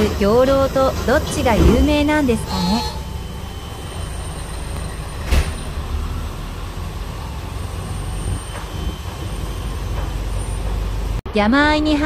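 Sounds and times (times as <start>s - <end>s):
diesel railcar engine rumble: 0.0s - 12.0s.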